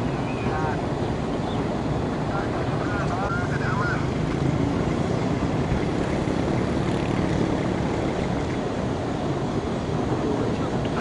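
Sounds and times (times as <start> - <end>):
steady rushing rumble: 0.0 - 11.0.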